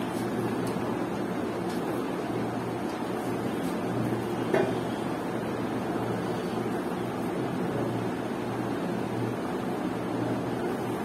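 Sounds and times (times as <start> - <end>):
room noise hiss and low hum: 0.0 - 11.0.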